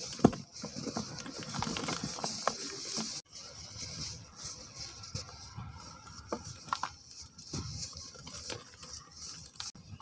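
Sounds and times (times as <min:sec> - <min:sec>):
cement powder sifting through sieve: 0:00.0 - 0:10.0.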